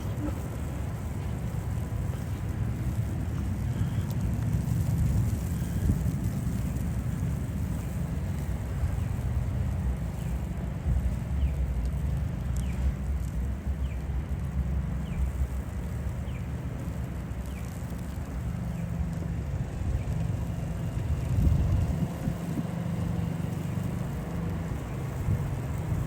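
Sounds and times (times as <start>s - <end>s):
city traffic rumble: 0.0s - 26.0s
wind buffeting microphone: 0.0s - 26.0s.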